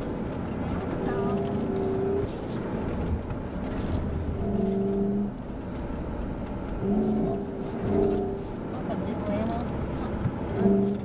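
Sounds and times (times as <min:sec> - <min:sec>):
constant low rumble: 0:00.0 - 0:11.0
engine running hard: 0:00.0 - 0:11.0.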